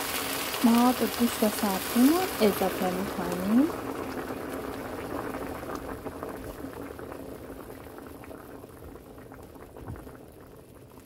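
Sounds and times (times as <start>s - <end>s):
stew bubbling in a pot: 0.0s - 11.0s.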